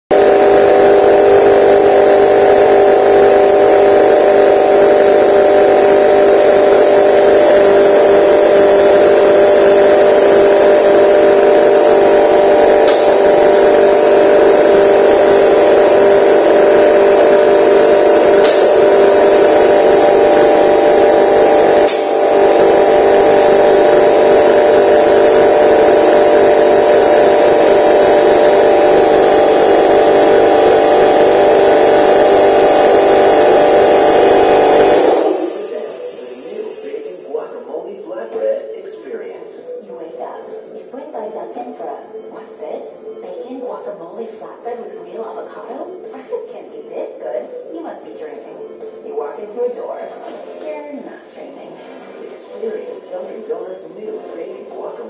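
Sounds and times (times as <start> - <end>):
air compressor motor humming: 0.1 - 39.8, 45.4 - 55.0.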